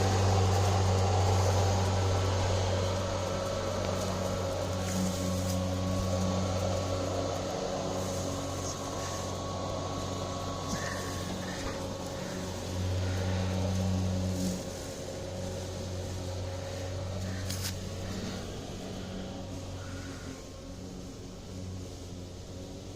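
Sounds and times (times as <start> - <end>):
lawn mower engine running: 0.0 - 22.9.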